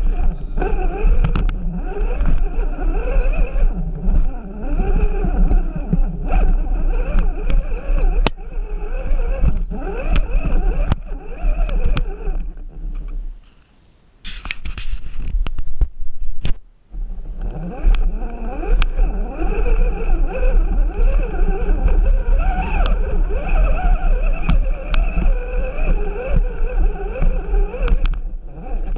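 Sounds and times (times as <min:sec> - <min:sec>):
electric motor whine: 0:00.0 - 0:13.2, 0:16.9 - 0:28.9
clicks and knocks from chassis: 0:00.0 - 0:13.6, 0:17.3 - 0:28.9.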